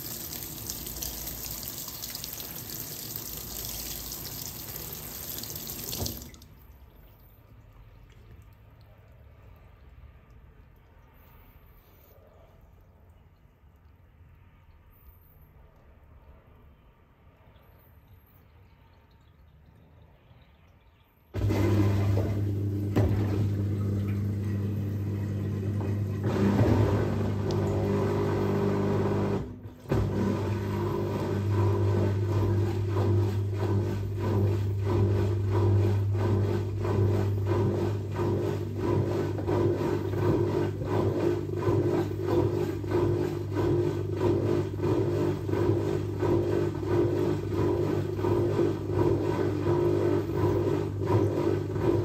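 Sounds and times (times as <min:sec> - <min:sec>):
washing machine motor hum: 0:00.0 - 0:11.3, 0:21.4 - 0:52.0
washing machine pulsing: 0:00.0 - 0:11.5, 0:21.4 - 0:52.0.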